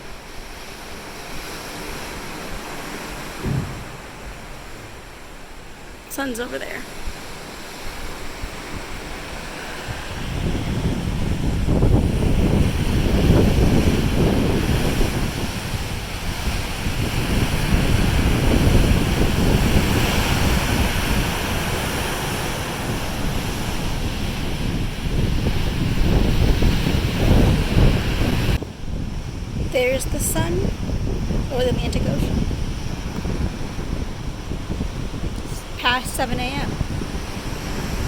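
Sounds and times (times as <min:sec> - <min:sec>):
ocean waves rushing: 0:00.0 - 0:38.0
wind buffeting microphone: 0:00.0 - 0:38.0.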